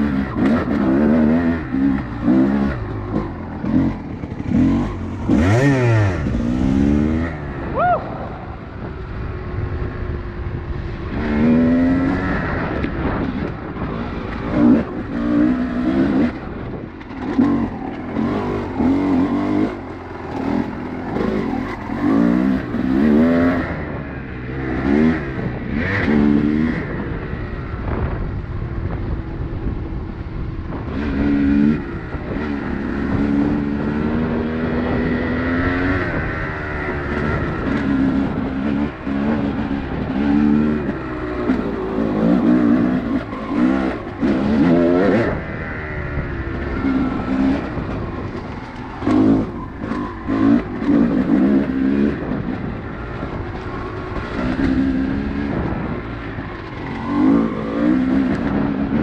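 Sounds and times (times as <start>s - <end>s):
off-road vehicle engine revving: 0.0s - 8.6s, 11.0s - 28.2s, 30.6s - 59.0s.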